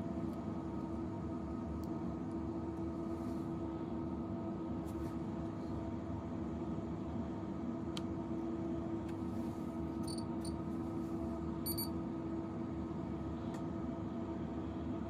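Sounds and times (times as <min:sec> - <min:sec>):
electrical hum of equipment: 0:00.0 - 0:15.0.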